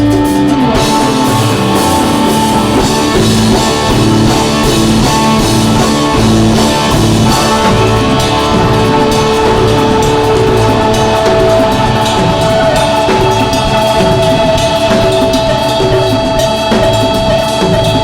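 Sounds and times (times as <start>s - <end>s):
drum kit: 0.0s - 18.0s
electric guitar: 0.0s - 18.0s
held organ notes: 0.0s - 18.0s
rhythmic bass line: 0.0s - 18.0s.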